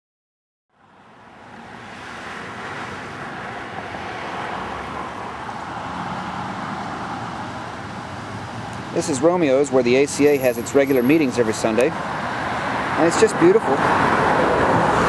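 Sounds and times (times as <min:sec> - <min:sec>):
street traffic noise: 0:00.7 - 0:15.0.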